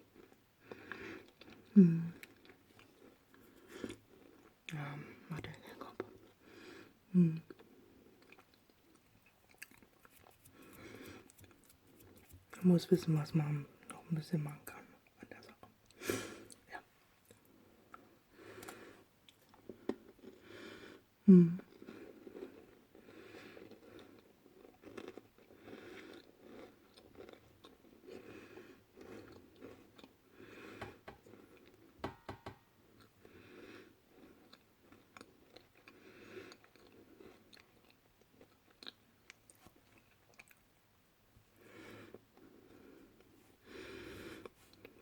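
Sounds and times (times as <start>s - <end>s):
chewing and crunching crisp food: 0.0s - 12.8s, 15.4s - 31.9s, 32.8s - 40.9s, 41.6s - 45.0s.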